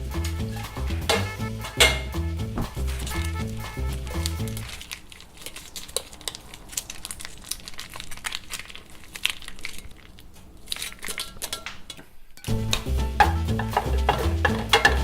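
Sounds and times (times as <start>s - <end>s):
crinkling and crackling: 0.0s - 15.0s.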